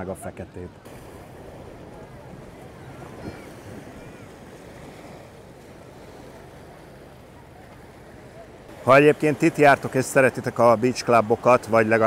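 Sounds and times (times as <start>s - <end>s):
ocean surf on beach: 0.0s - 12.0s.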